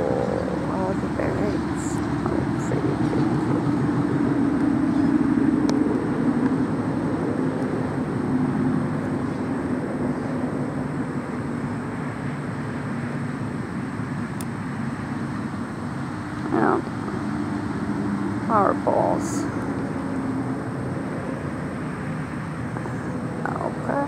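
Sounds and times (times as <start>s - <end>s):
distant engine drone: 0.0s - 24.0s.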